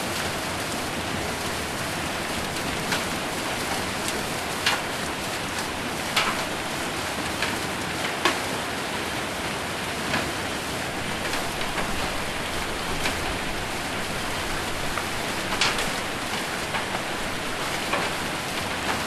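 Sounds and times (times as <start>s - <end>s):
hail hitting a metal roof: 0.0s - 19.0s
rain on a metal roof: 0.0s - 19.0s.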